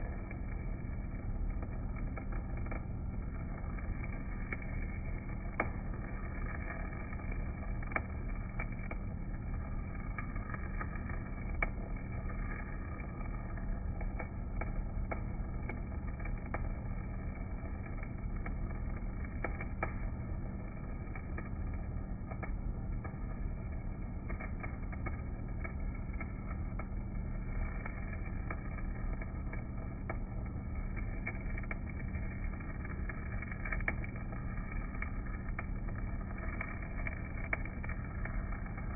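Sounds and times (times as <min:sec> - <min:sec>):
steady low hum: 0:00.0 - 0:38.9
welding arc sizzling crackle: 0:00.0 - 0:38.9.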